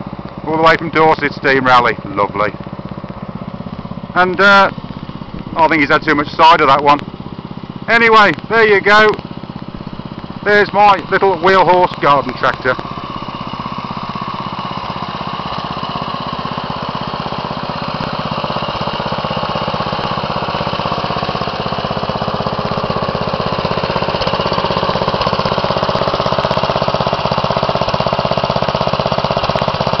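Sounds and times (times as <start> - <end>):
tractor engine chugging: 0.0 - 30.0.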